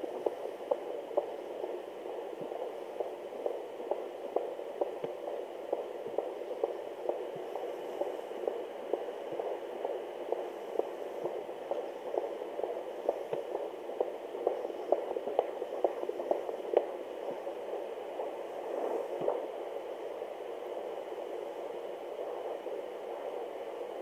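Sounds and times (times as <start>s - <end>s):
fetal heartbeat pulse on doppler: 0.0s - 24.0s
static hiss: 0.0s - 24.0s.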